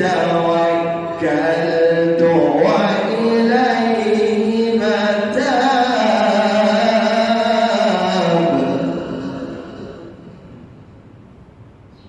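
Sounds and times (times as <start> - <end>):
man chanting melodically: 0.0 - 10.8.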